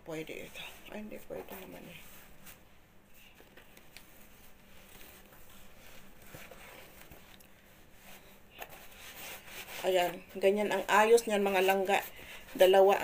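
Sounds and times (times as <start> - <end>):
cloth rustling and rubbing: 0.2 - 13.0.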